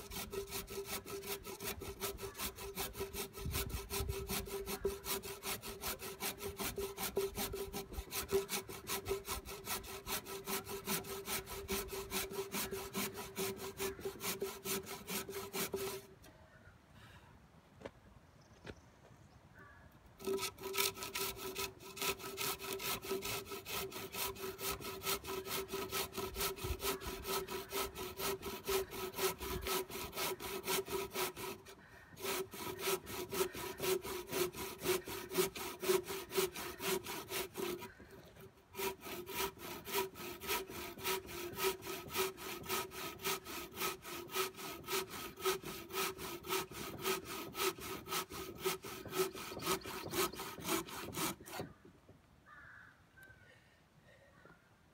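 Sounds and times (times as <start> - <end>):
hand saw cutting wood: 0.0 - 16.1, 20.2 - 51.7.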